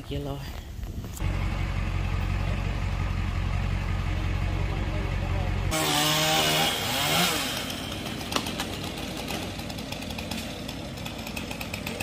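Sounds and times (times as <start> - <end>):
chainsaw running: 1.2 - 12.0.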